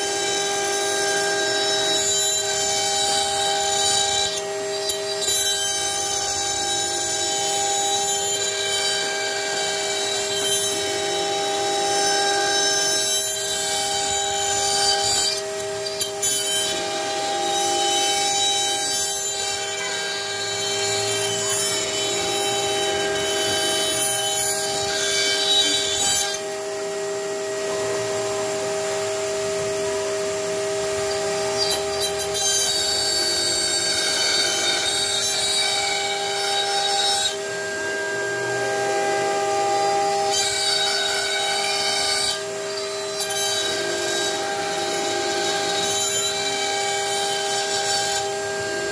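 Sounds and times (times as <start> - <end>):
router spindle milling wood: 0.0 - 48.9.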